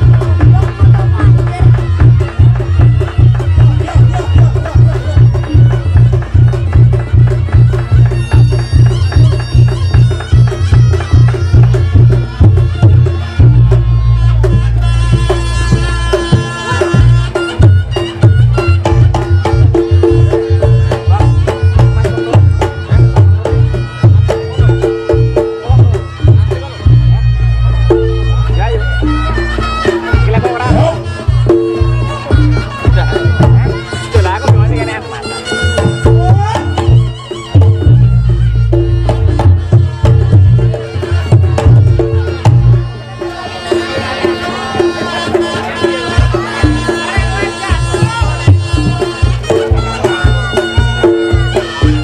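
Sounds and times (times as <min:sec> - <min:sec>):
drum and gong strokes: 0:00.0 - 0:52.0.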